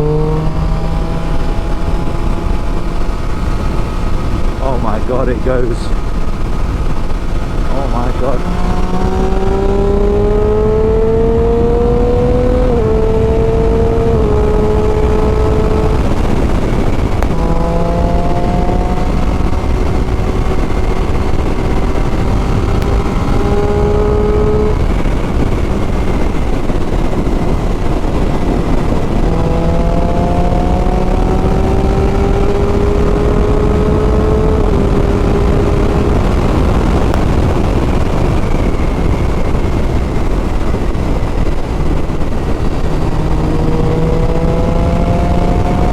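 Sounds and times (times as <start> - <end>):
motorcycle engine accelerating: 0.0 - 45.9
wind buffeting microphone: 0.0 - 45.9.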